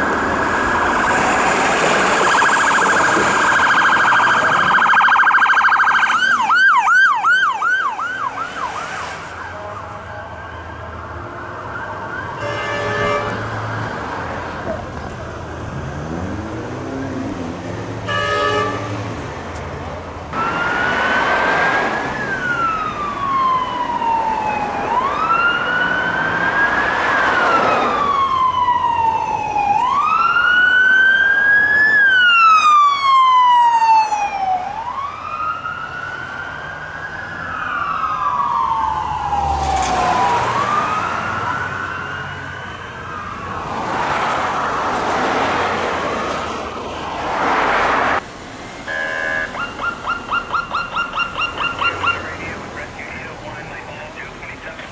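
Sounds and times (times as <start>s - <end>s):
police siren wailing: 0.0s - 14.2s, 20.3s - 45.4s, 48.9s - 54.9s
passing vehicle rush: 0.0s - 54.9s.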